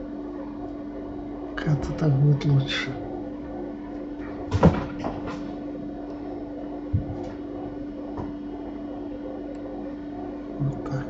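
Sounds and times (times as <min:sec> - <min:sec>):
bread machine humming: 0:00.0 - 0:11.0.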